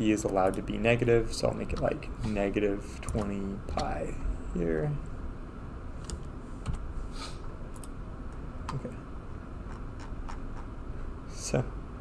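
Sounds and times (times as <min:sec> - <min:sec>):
steady room hum: 0:00.0 - 0:12.0.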